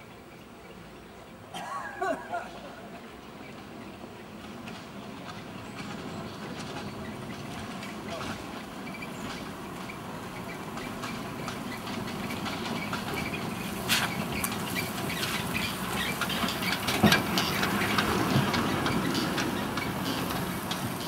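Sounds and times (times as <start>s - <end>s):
electric bus passing by: 0.0s - 21.0s.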